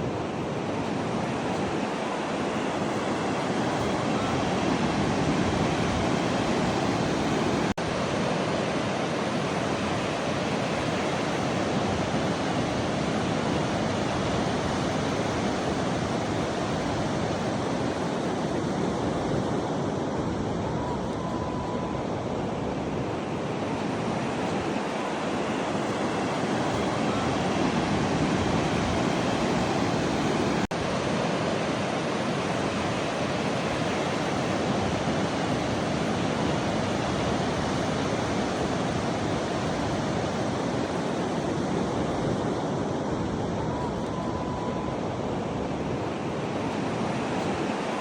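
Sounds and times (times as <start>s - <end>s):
ocean surf rushing: 0.0s - 48.0s
wind: 0.0s - 48.0s.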